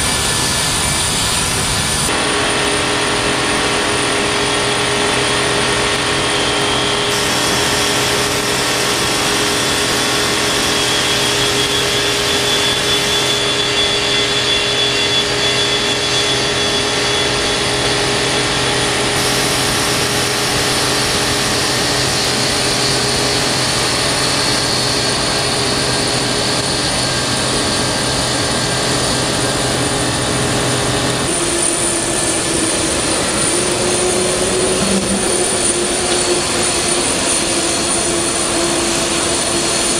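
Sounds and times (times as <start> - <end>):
jet airliner engines taxiing: 0.0 - 39.9.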